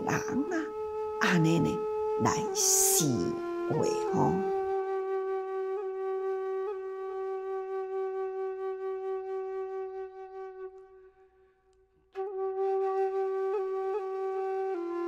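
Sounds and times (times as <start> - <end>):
flute holding a long note: 0.7 - 11.5, 12.2 - 15.0.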